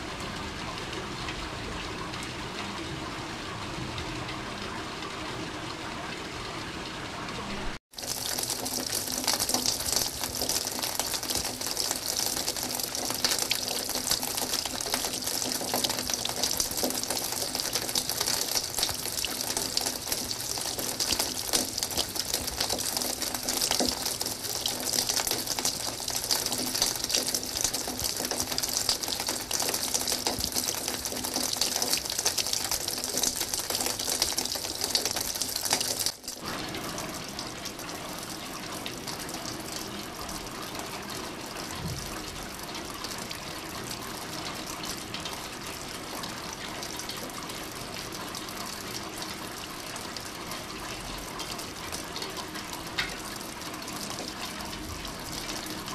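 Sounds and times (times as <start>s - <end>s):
heavy rain on a window: 0.0s - 55.9s
rain falling outside: 0.0s - 55.9s.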